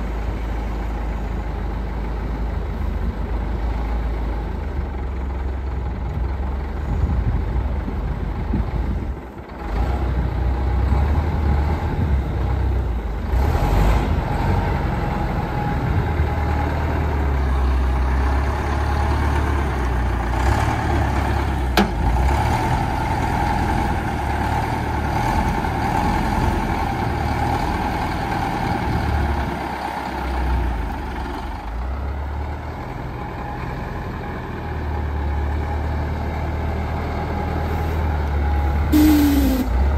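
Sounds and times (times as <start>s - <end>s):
diesel engine low rumble: 0.0s - 39.9s.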